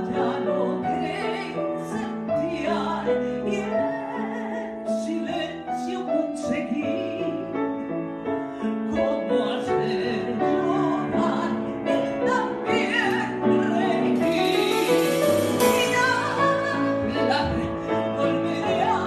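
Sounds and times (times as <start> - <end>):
woman singing with vibrato: 0.0 - 7.5, 9.0 - 19.0
orchestra with piano: 0.0 - 19.0.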